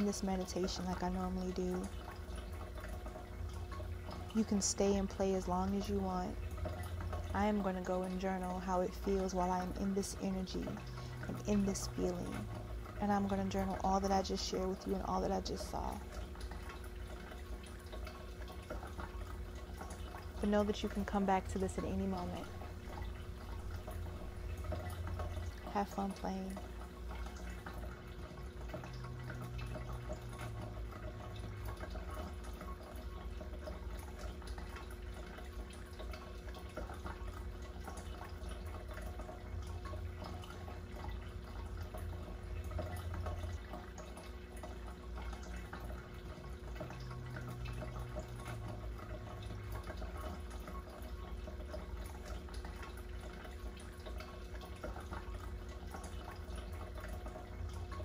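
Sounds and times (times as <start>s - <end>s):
water dripping and trickling: 0.0s - 58.0s.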